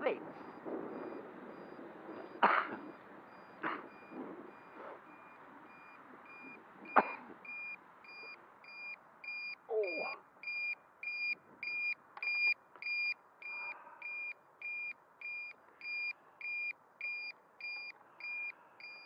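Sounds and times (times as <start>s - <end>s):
electronic beeper beeping: 0.0s - 19.0s.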